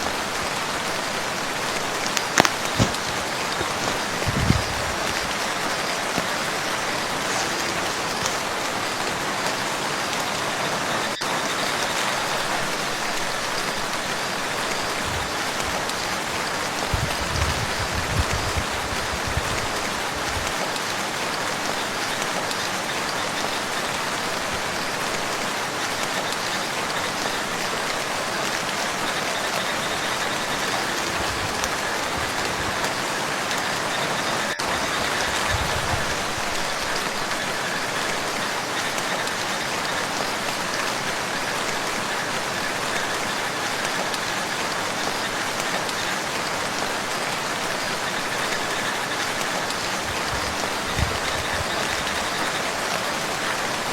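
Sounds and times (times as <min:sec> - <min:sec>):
rain falling on a lake: 0:00.0 - 0:53.9.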